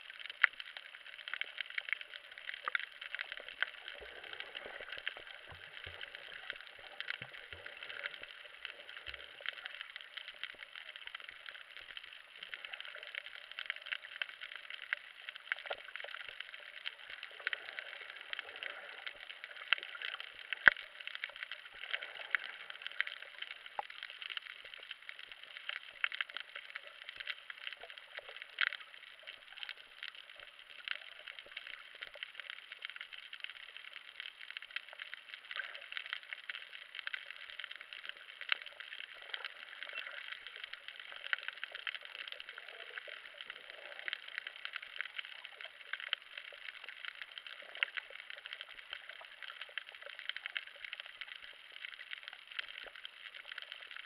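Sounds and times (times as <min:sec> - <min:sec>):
crackle of tiny underwater clicks: 0:00.0 - 0:54.0.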